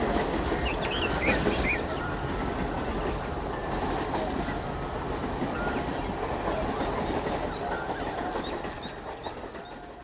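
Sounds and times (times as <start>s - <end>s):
train wheels rumbling on track: 0.0s - 10.0s.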